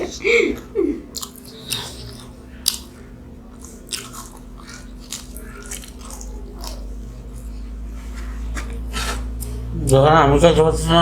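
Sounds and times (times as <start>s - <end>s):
person chewing fried flatbread: 1.1s - 10.0s.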